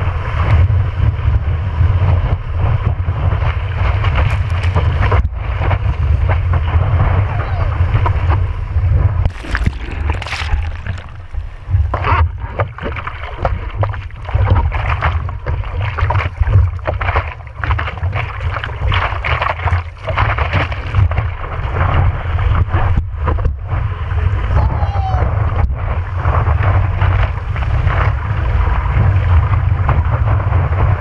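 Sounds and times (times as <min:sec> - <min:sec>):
sea water splashing against surfboard: 0:00.0 - 0:31.0
wind buffeting camera: 0:00.0 - 0:31.0.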